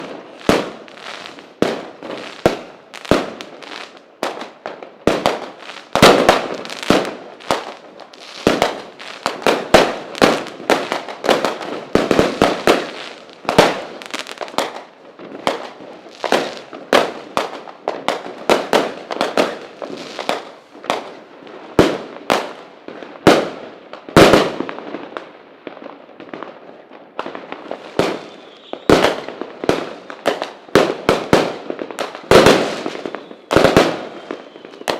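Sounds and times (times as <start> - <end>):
fireworks bangs and pops: 0.0 - 34.9
fireworks crackling: 0.0 - 34.9.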